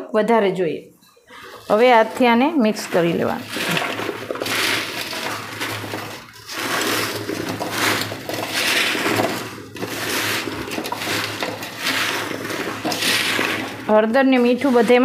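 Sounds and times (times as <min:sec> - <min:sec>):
food pieces clattering in metal pot: 0:01.4 - 0:15.0.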